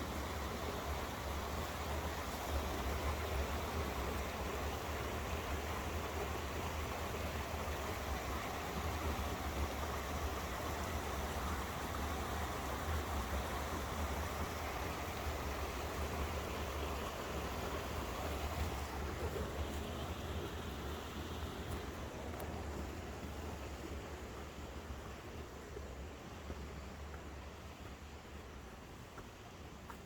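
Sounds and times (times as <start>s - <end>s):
stream rushing: 0.0s - 30.0s.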